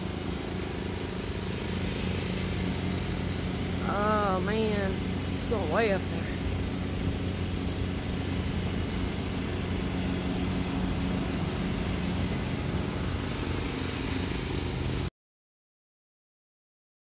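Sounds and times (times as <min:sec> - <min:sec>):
low mechanical hum: 0:00.0 - 0:15.1.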